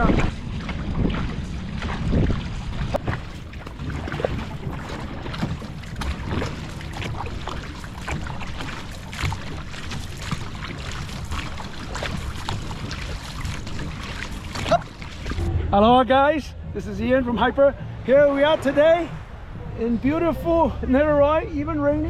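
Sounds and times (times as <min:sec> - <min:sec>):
paddles splashing water: 0:00.0 - 0:15.4, 0:17.9 - 0:21.4
wind rumble on microphone: 0:00.0 - 0:22.0.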